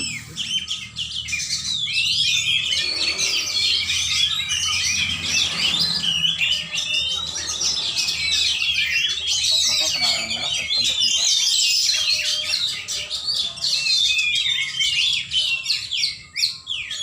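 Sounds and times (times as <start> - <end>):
songbirds chorus: 0.0 - 17.0.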